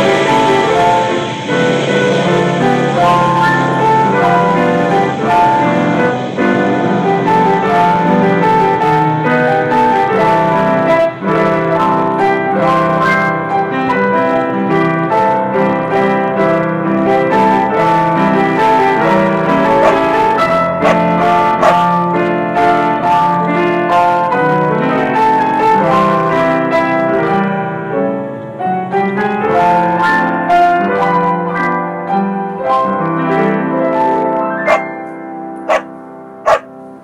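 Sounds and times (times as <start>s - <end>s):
background piano music: 0.0s - 37.0s.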